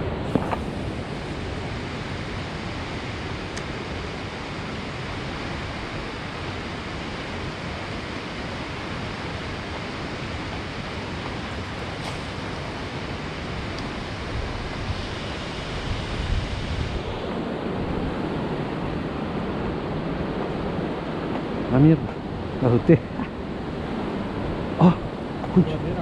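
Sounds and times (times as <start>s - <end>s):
river rushing through rapids: 0.0s - 26.0s.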